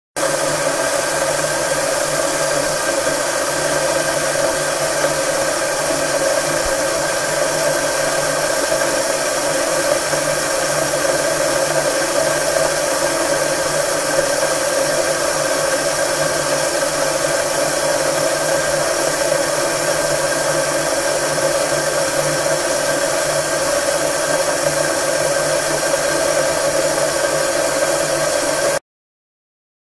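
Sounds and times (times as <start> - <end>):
milk boiling with steady hiss: 0.2 - 28.8.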